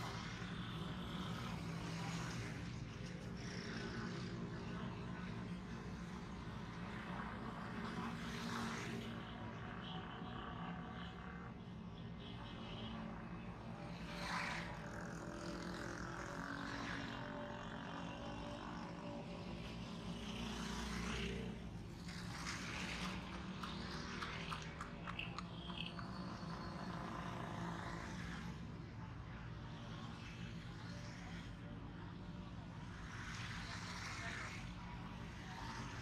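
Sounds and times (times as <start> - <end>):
motorcycle engines passing: 0.0 - 36.0.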